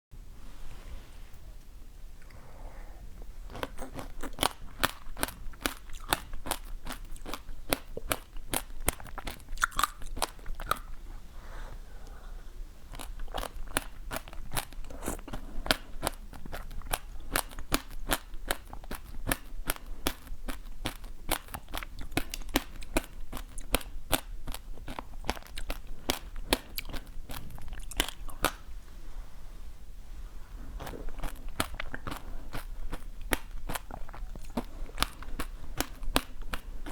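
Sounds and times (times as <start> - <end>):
chewing crunchy food: 3.4 - 11.1, 12.8 - 28.7, 30.6 - 36.9.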